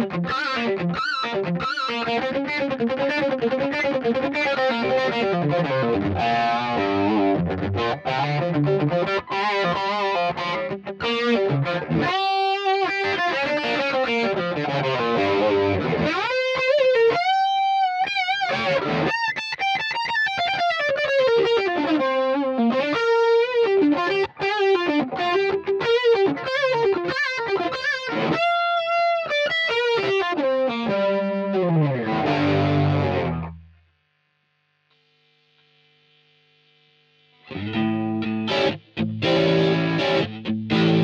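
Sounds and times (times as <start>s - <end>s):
overdriven electric guitar solo: 0.0s - 33.7s, 37.4s - 41.0s.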